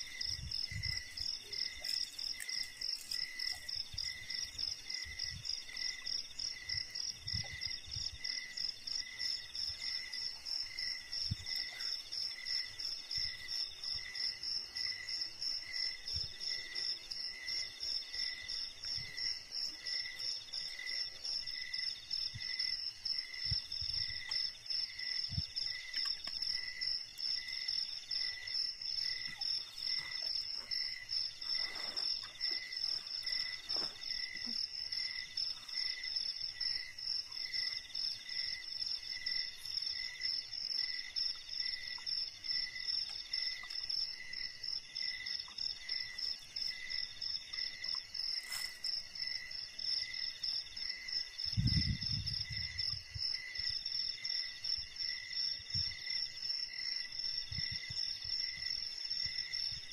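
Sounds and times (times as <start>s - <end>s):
high-pitched insect trill: 0.0s - 59.9s
low insect chirp: 0.0s - 59.9s
lower insect trill: 0.0s - 59.9s.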